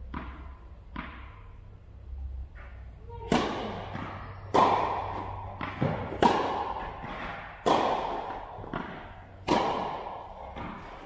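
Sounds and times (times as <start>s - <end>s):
racket striking ball with echo: 0.0s - 1.6s, 2.6s - 11.0s
tennis ball bouncing: 0.0s - 1.7s, 2.5s - 11.0s.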